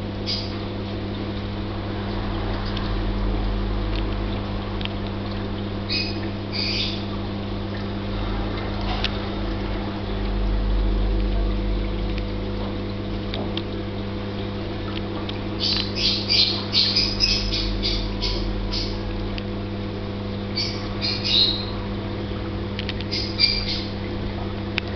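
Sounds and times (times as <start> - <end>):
aquarium pumps humming: 0.0 - 24.9.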